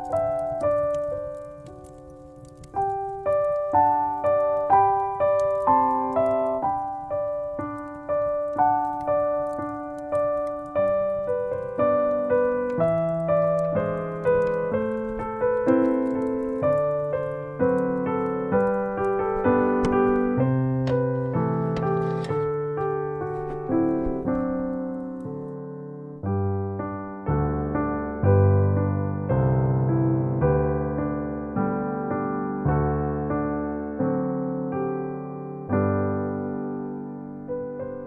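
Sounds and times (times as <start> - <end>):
solo piano melody: 0.0 - 38.0.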